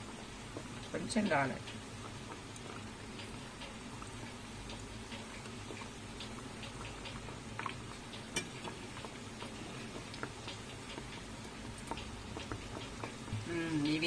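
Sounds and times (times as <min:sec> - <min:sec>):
oil crackling while deep-frying: 0:00.0 - 0:14.0.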